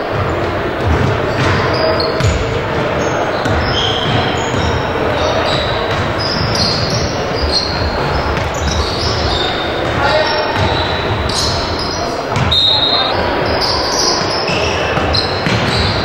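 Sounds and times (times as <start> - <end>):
hubbub of a large hall: 0.0 - 16.0
players' voices: 0.0 - 16.0
basketball bouncing: 0.1 - 11.6, 12.3 - 12.6, 14.2 - 16.0
sneaker squeaks: 0.2 - 16.0.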